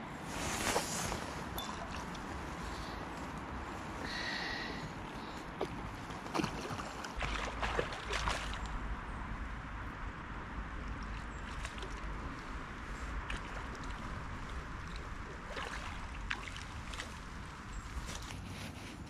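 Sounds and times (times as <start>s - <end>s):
river water rushing: 1.0s - 18.2s.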